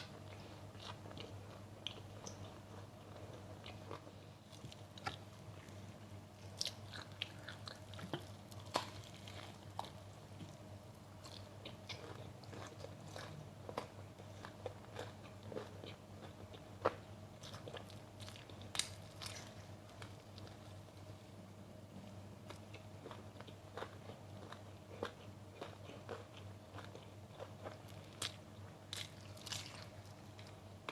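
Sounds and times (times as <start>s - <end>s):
person chewing crunchy food: 0.0s - 20.9s, 22.0s - 30.9s
faint steady hum: 0.0s - 30.9s.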